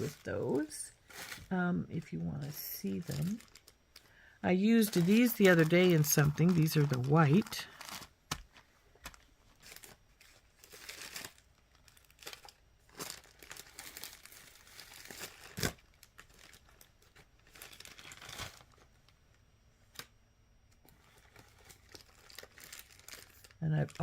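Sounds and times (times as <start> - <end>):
plastic bags crinkling: 0.0 - 19.0, 20.8 - 24.0.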